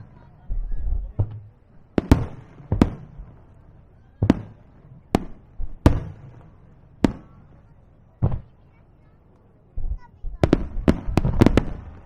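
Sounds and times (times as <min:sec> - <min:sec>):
firework bangs with echo: 0:00.0 - 0:08.8, 0:09.8 - 0:12.0.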